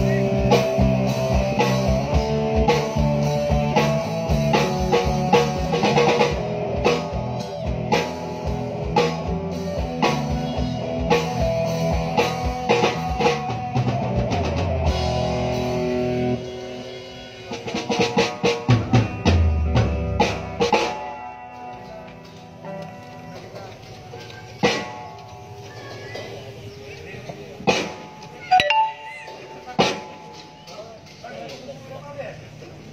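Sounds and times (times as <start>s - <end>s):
rock band playing: 0.0s - 25.6s, 27.6s - 30.7s.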